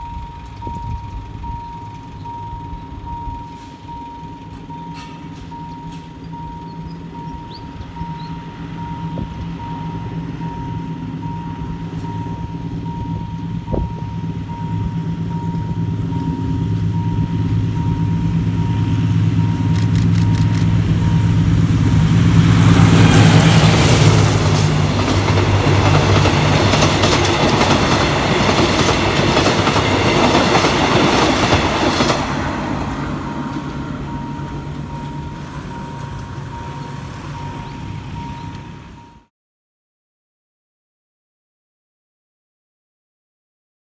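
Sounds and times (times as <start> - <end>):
crossing warning signal pulsing: 0.0 - 39.3
diesel locomotive engine drone: 0.0 - 39.3
train coaches rolling past: 0.0 - 39.3.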